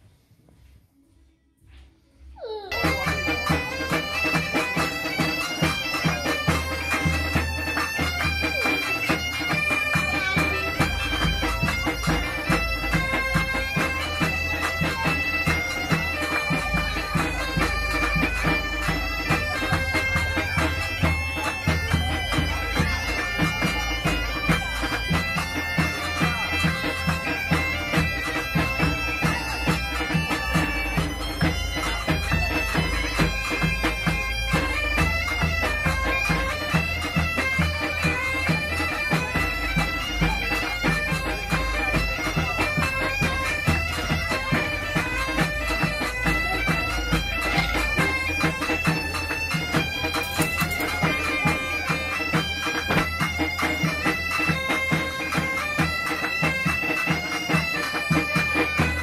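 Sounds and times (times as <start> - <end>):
reedy pipe melody: 2.4 - 59.0.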